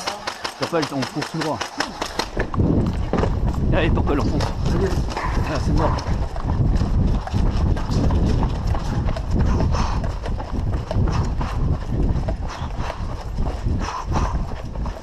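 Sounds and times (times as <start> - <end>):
footsteps on hard ground: 0.0 - 15.0.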